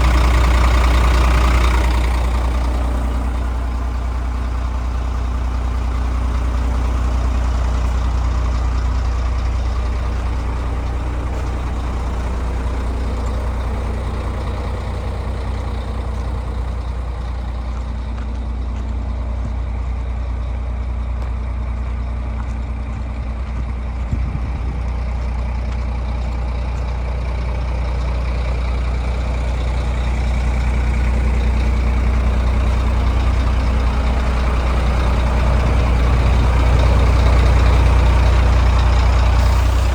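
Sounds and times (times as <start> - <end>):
diesel truck engine humming: 0.0 - 39.9.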